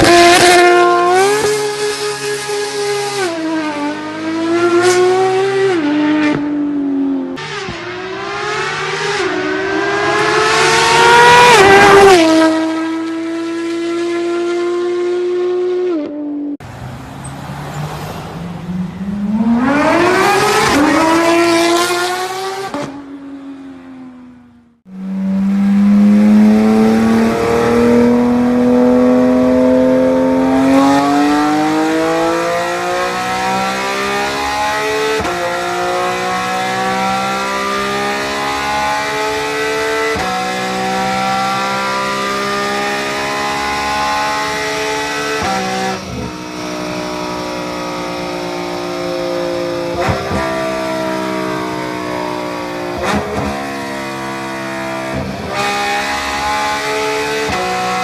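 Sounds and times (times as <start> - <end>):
car engine revving on dyno: 0.0 - 16.2, 18.9 - 23.0, 24.8 - 58.0
car accelerating hard: 0.0 - 23.0, 24.9 - 58.0.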